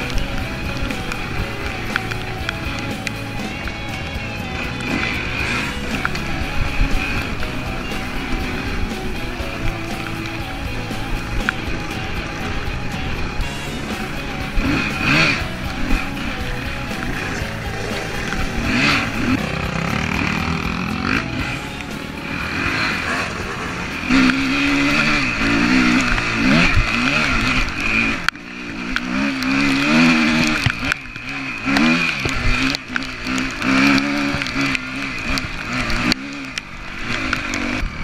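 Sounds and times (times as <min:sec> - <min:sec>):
dirt bike engine revving: 0:00.0 - 0:38.0
rock music: 0:00.0 - 0:38.0.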